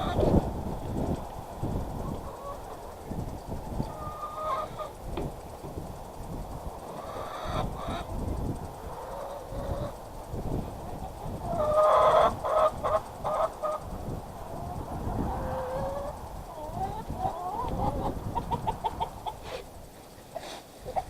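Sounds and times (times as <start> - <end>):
chickens clucking and squawking: 0.0 - 21.0.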